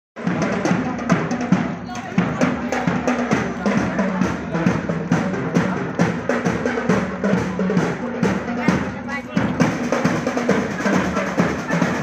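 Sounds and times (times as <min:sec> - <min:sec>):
bass and snare drums beating: 0:00.2 - 0:12.0.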